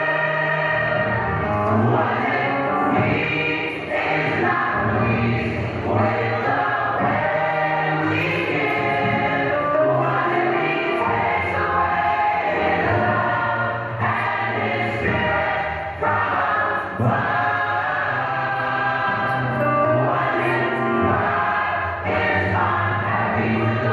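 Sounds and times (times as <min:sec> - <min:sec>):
choir singing in harmony: 0:00.0 - 0:23.9.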